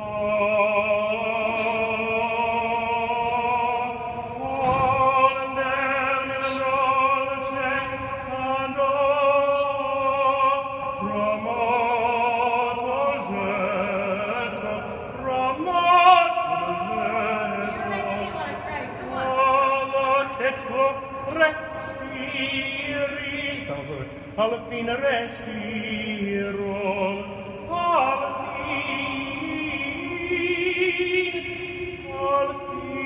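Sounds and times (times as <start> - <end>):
man singing opera: 0.0 - 18.0, 19.2 - 33.0.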